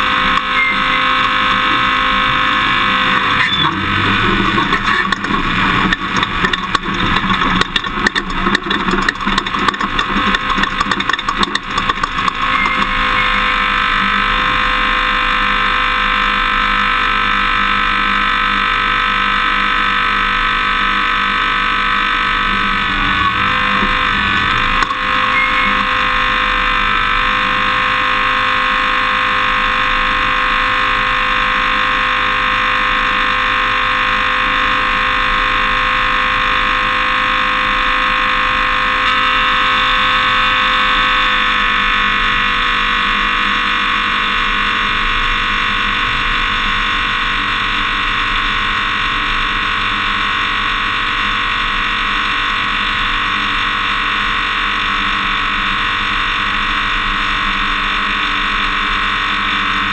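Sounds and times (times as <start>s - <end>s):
pickup truck driving drone: 0.0s - 59.9s.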